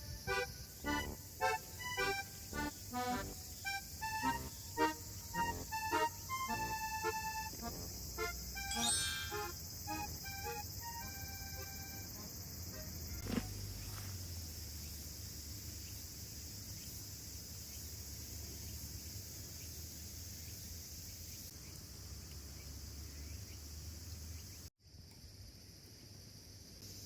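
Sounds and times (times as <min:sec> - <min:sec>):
cicadas buzzing: 0:00.0 - 0:27.0.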